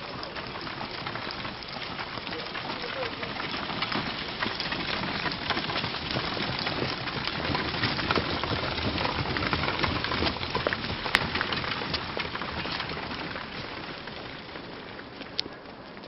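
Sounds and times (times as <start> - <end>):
cart wheels rattling on cobblestones: 0.0 - 16.0
hooves clattering: 0.0 - 16.0.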